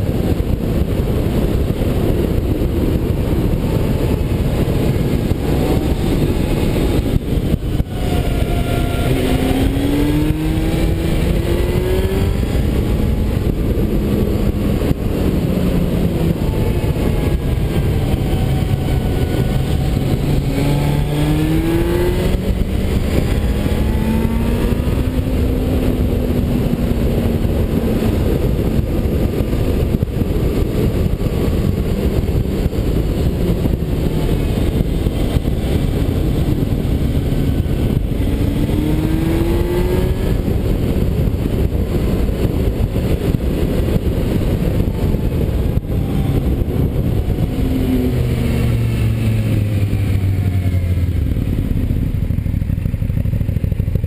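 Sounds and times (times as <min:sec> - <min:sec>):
motorcycle engine accelerating: 0:00.0 - 0:54.0
wind noise on microphone: 0:00.0 - 0:54.0.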